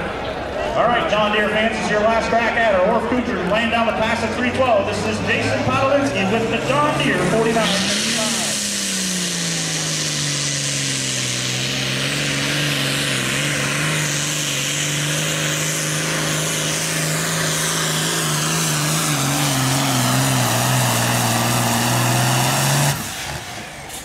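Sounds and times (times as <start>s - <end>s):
tractor engine running under load: 1.6s - 24.0s.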